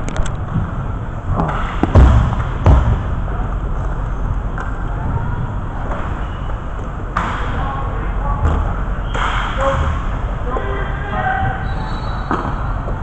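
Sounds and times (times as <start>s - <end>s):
background noise with low hum: 0.0s - 13.0s.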